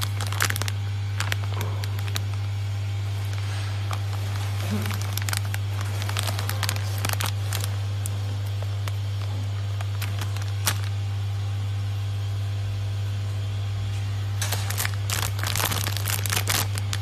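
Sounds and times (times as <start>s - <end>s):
plastic packaging crinkling: 0.0s - 11.3s, 14.4s - 17.0s.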